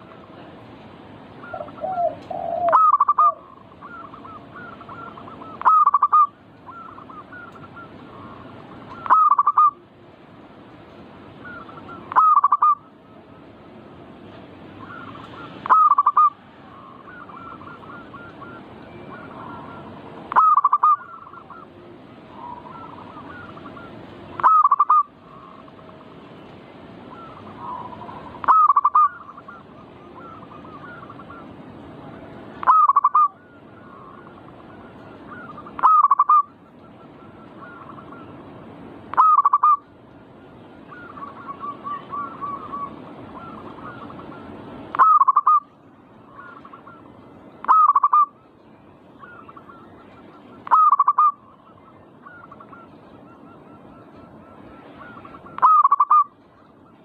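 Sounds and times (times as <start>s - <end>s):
faint bird calls: 1.3s - 10.1s, 10.9s - 57.0s
dove cooing: 1.4s - 9.8s, 11.4s - 12.9s, 14.8s - 26.0s, 27.1s - 31.6s, 32.6s - 38.5s, 39.1s - 39.9s, 40.7s - 48.5s, 49.2s - 57.0s.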